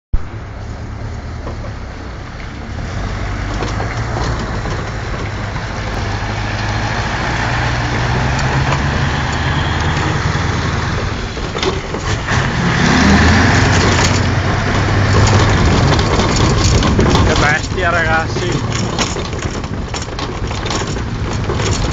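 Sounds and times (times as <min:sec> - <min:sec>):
diesel truck engine running: 0:00.2 - 0:21.9.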